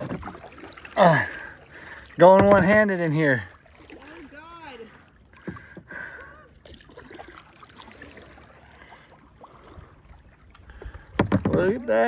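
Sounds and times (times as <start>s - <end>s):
small splashes and knocks: 0.0s - 6.0s, 6.6s - 11.8s.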